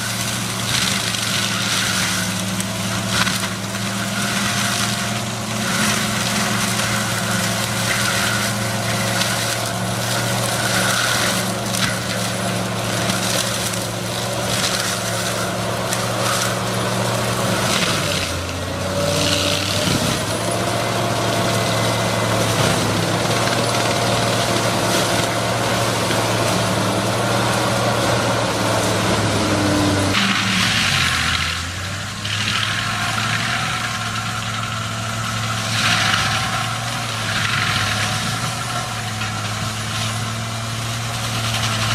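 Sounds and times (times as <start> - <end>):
heavy machine engine under load: 0.0 - 41.9
wood grinding and crushing: 0.0 - 41.9.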